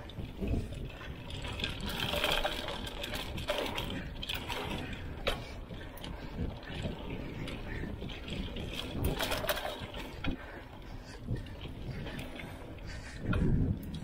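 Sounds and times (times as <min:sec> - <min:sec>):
bike chain and frame rattling: 0:00.0 - 0:14.0
bike tyres on loose dirt: 0:00.0 - 0:14.0
wind buffeting microphone: 0:00.0 - 0:14.0.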